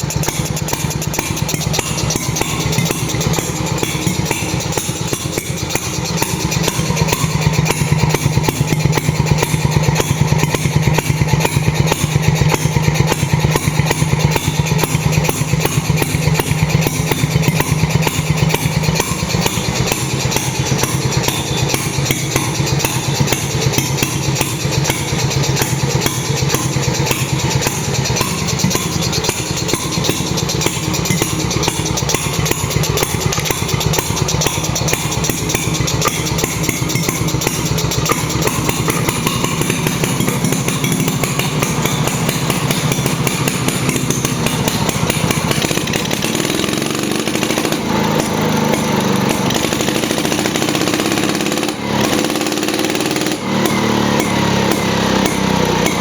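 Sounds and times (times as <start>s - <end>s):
two-stroke marine engine running: 0.0s - 56.0s.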